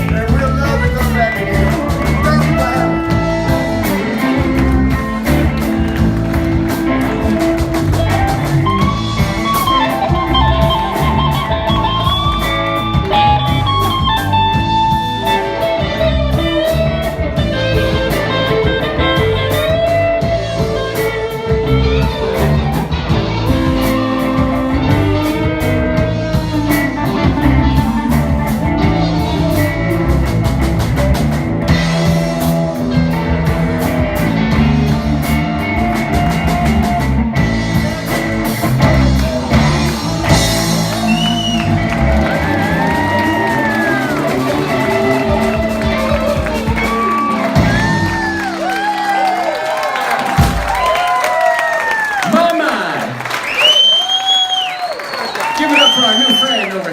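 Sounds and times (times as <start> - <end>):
lead guitar with bent notes: 0.0 - 49.3
drum kit beat: 0.0 - 52.5
blues band playing: 0.0 - 56.9.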